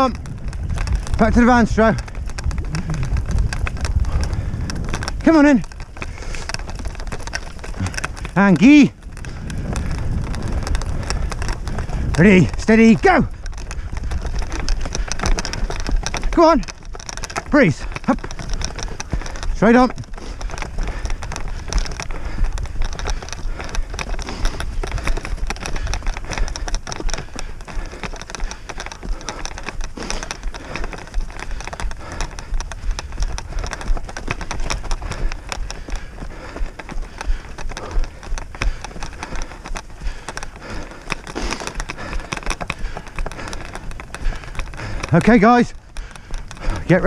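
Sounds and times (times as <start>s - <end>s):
wind on microphone: 0.0s - 45.2s
wheels crackling and rattling over ground: 0.0s - 47.0s.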